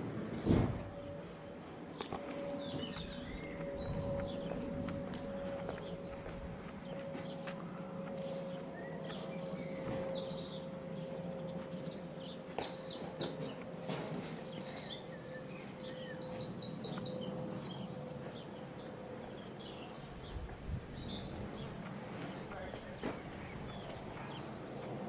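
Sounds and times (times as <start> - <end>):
faint steady drone: 0.0 - 25.0
songbird chirping: 1.8 - 24.6.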